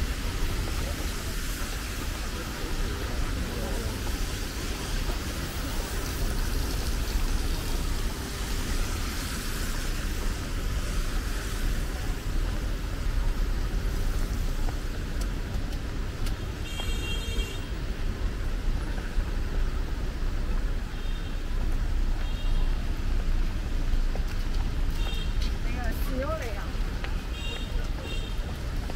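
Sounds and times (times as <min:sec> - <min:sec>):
cars passing on wet road: 0:00.0 - 0:28.9.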